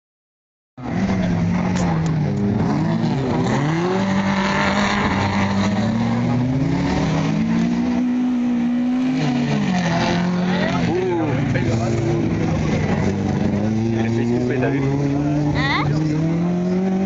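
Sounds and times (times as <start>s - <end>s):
car engine revving: 0.8s - 17.0s.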